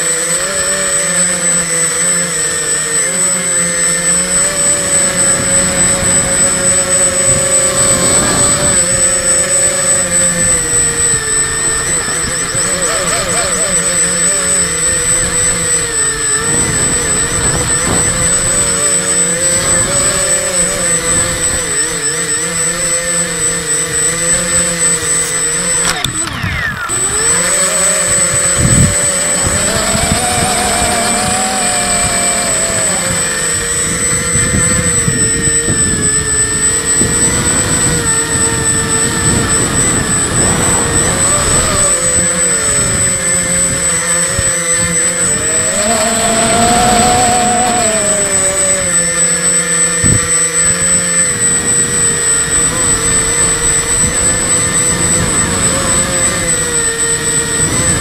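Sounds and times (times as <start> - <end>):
quadcopter propellers whining: 0.0 - 58.0.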